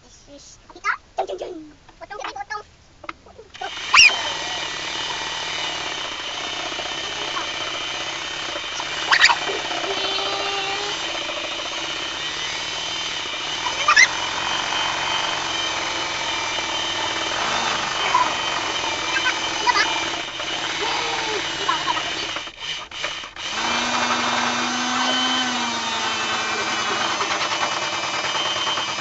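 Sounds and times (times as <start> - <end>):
scroll saw buzzing: 3.6 - 29.0.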